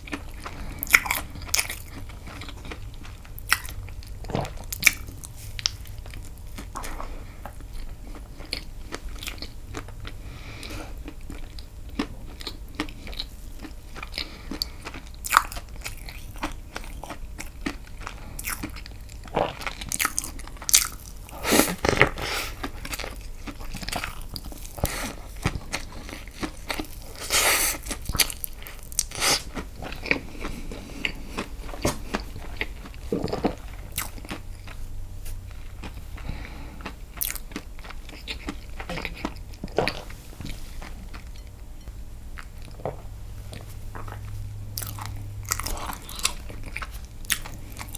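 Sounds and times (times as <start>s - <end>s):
person chewing wet cake: 0.0s - 47.9s.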